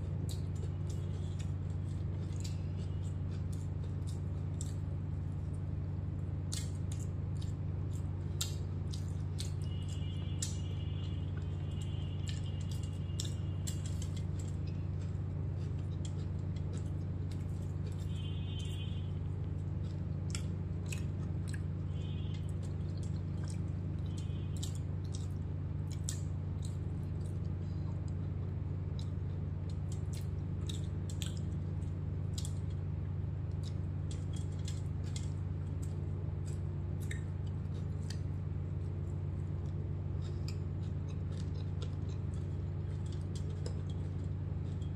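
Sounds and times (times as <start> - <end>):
steady low hum: 0.0 - 44.9
wet chewing and lip smacks: 0.1 - 4.9, 6.5 - 18.8, 19.4 - 21.7, 22.3 - 32.8, 33.5 - 44.9.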